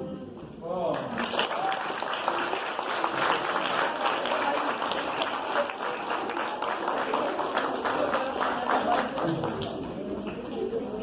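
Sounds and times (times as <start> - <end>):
audience applauding: 0.9 - 10.4.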